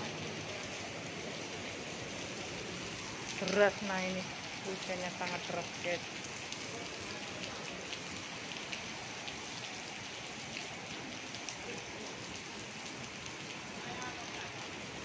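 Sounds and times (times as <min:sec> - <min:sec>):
heavy rain on paving: 0:00.0 - 0:15.0
rain drops ticking: 0:00.0 - 0:15.0.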